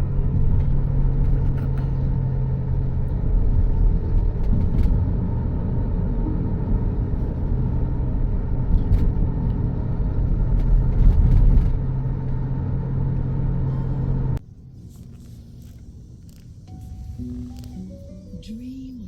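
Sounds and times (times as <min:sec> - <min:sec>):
steady low hum: 0:00.0 - 0:19.0
vehicle engine rumble: 0:00.0 - 0:19.0.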